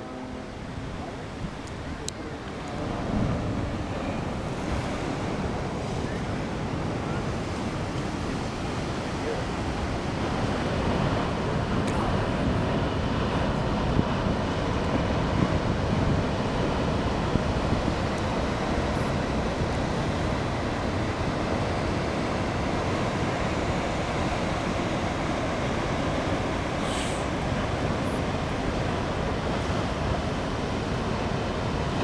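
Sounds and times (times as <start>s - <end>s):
ocean surf: 0.0s - 32.0s
wind buffeting microphone: 0.0s - 32.0s.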